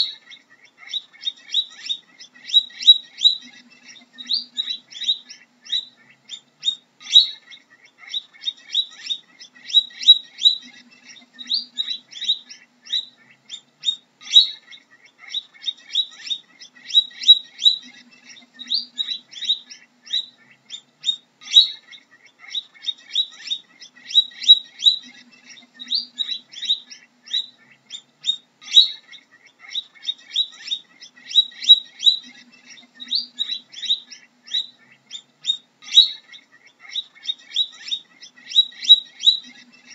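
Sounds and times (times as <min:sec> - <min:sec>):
guinea pig squeaking: 0:00.0 - 0:39.9.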